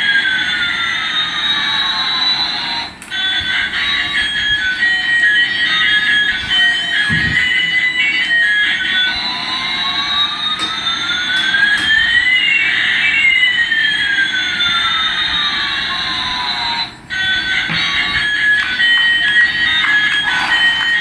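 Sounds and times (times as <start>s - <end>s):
electronic gliding tones from toy: 0.0s - 21.0s.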